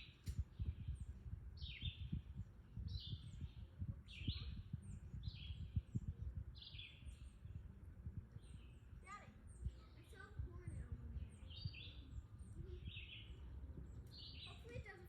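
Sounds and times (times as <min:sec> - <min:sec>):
low thumping and rumbling: 0:00.3 - 0:15.0.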